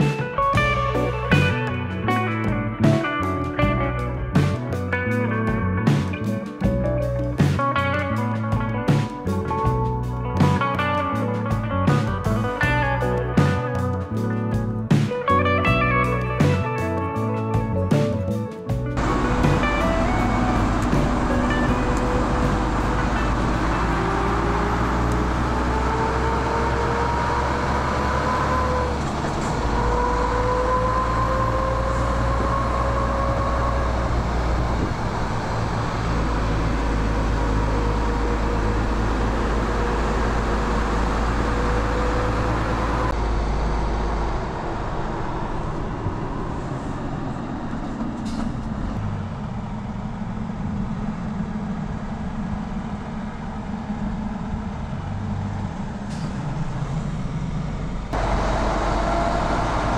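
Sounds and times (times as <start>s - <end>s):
truck diesel engine accelerating: 0.0s - 59.9s
truck rolling on road drone: 0.0s - 59.9s.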